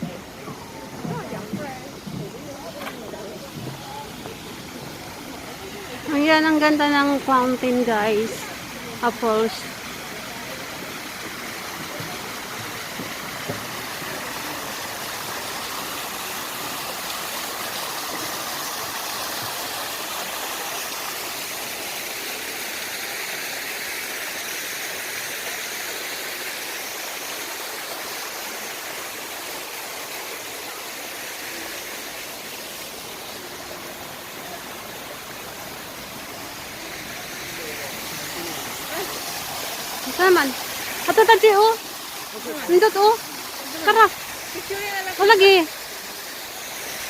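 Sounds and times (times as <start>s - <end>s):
water fountain splashing: 0.0s - 47.0s.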